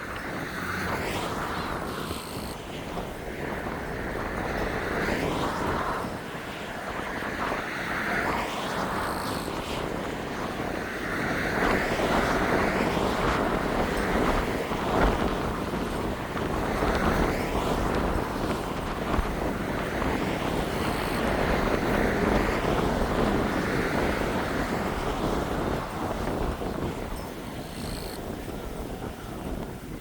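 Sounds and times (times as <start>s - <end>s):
strong wind gusting: 0.0s - 30.0s
wind buffeting microphone: 0.0s - 30.0s.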